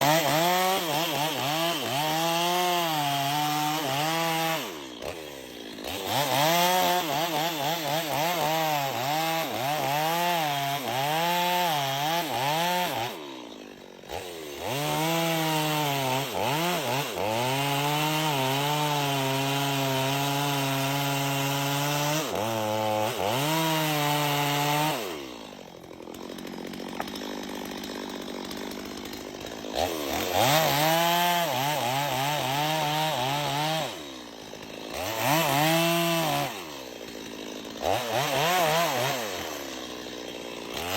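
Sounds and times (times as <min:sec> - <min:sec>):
chainsaw cutting tree: 0:00.0 - 0:40.9.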